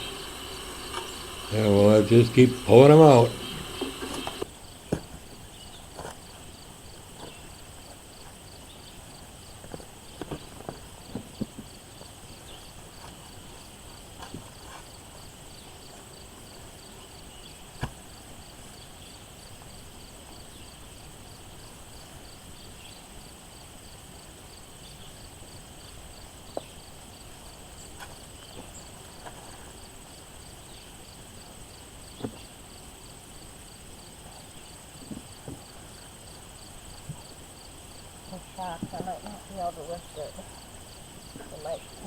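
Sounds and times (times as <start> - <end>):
insects chirring: 0.0 - 20.7, 24.6 - 42.0.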